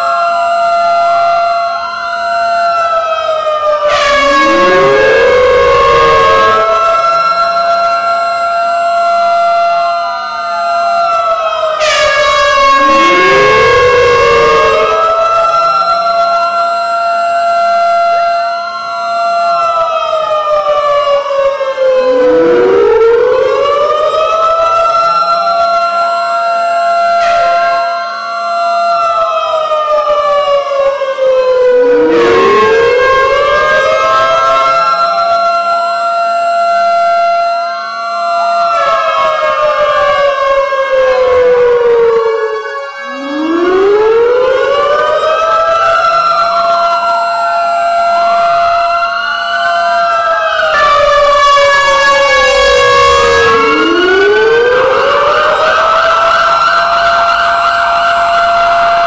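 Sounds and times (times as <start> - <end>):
warning sirens wailing: 0.0 - 59.0.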